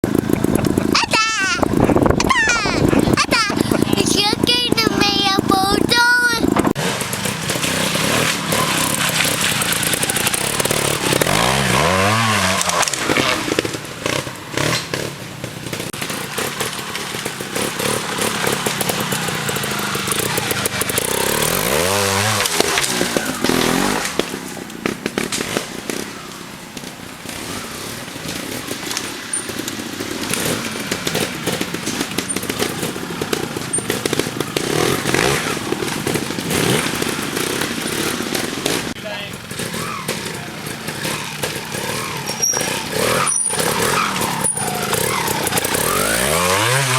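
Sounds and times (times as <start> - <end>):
motorbike engine revving: 0.0 - 46.9.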